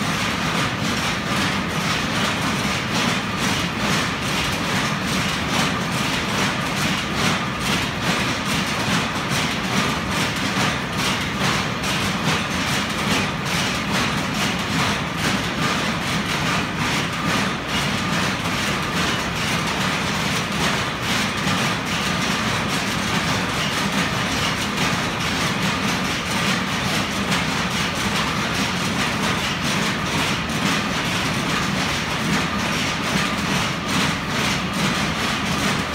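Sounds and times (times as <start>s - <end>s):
power looms clattering: 0.0s - 35.9s.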